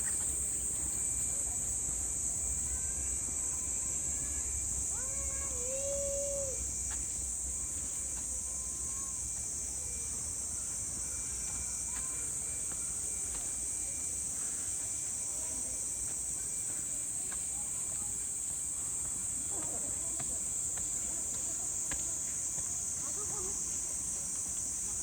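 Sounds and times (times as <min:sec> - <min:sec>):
insects droning chorus: 0:00.0 - 0:25.0.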